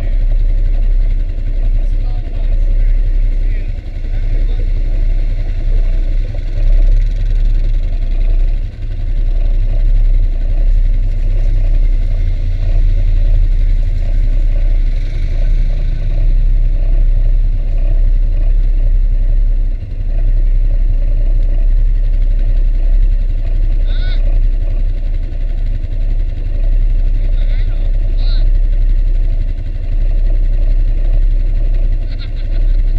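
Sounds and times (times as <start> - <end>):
atv engines idling: 0.0 - 32.9.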